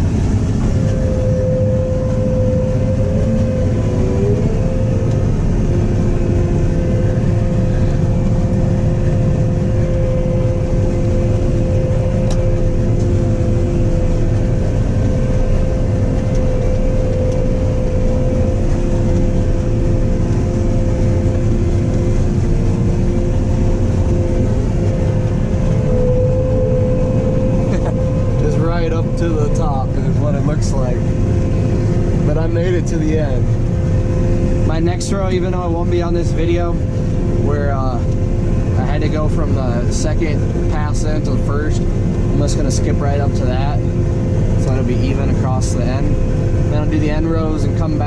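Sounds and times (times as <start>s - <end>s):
combine harvester drone: 0.0s - 48.0s
lower machine whine: 0.0s - 48.0s.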